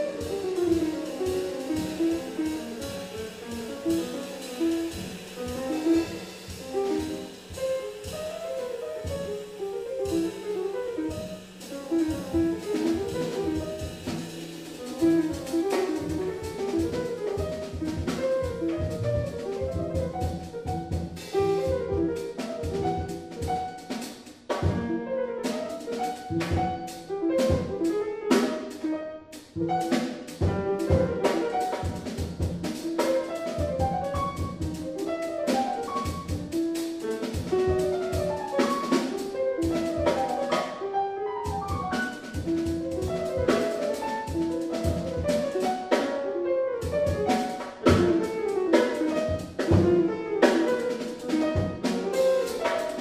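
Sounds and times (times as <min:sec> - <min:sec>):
drum kit with cymbals: 0:00.0 - 0:46.2, 0:46.8 - 0:53.0
grand piano: 0:00.0 - 0:53.0.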